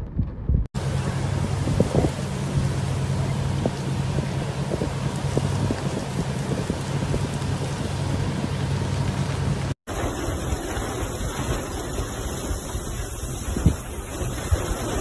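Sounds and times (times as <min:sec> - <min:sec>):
strong wind: 0:00.0 - 0:15.0
wind buffeting microphone: 0:00.0 - 0:15.0
rain: 0:00.8 - 0:15.0.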